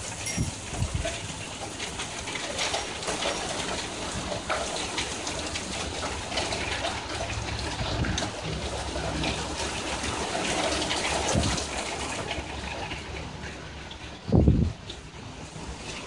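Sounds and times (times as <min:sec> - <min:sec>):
rain patter and drips: 0:00.0 - 0:16.0.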